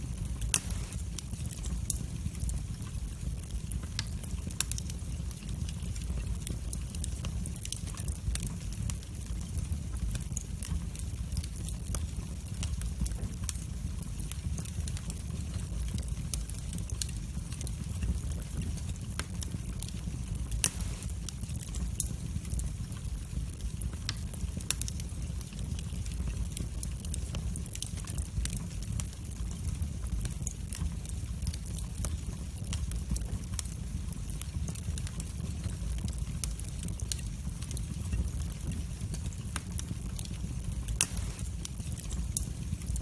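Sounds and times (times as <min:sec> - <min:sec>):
fire crackles and pops: 0:00.0 - 0:43.0
low rumble of flames: 0:00.0 - 0:43.0.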